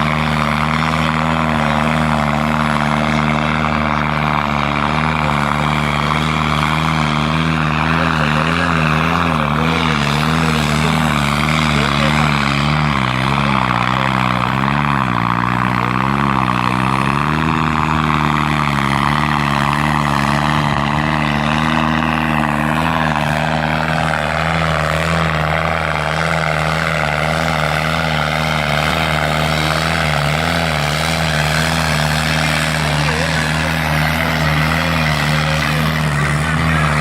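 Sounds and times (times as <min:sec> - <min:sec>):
tractor diesel engine droning: 0:00.0 - 0:37.0.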